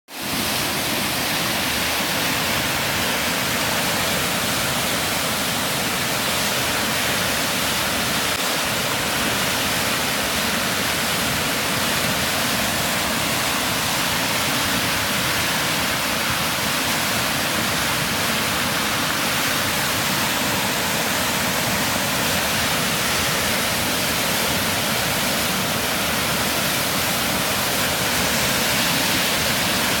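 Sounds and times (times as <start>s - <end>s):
creek water rushing: 0.1s - 30.0s.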